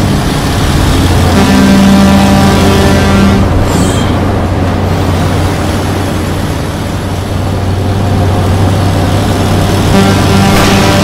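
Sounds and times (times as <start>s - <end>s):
rushing road noise: 0.0s - 11.0s
truck diesel engine drone: 0.0s - 11.0s.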